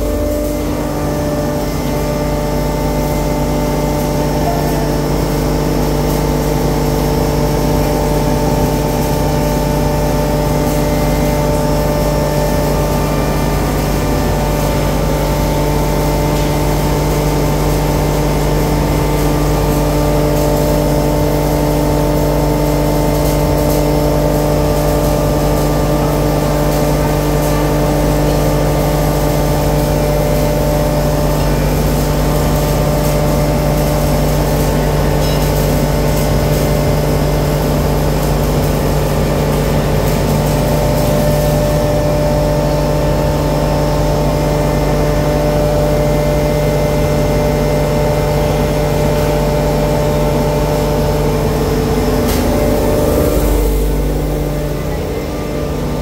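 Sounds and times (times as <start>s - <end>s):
hammer mill running: 0.0s - 56.0s.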